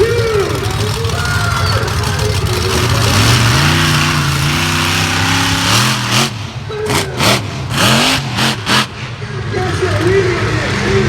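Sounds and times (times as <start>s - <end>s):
busy outdoor background: 0.0s - 11.0s
vehicle engine running: 0.0s - 11.0s
voices talking: 0.0s - 11.0s.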